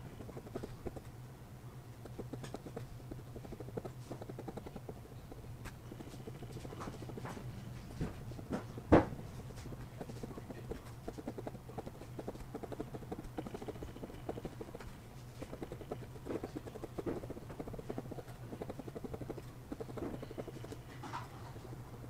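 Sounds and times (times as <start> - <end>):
pen nib scratching on paper: 0.0 - 1.2, 1.9 - 22.0
steady low hum: 0.0 - 22.0.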